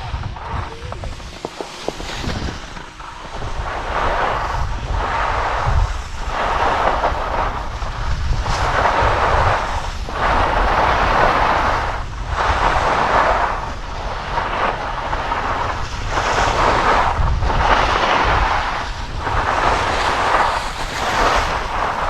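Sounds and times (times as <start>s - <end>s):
skis scraping over snow: 0.0s - 22.0s
wind rumbling on microphone: 0.0s - 22.0s.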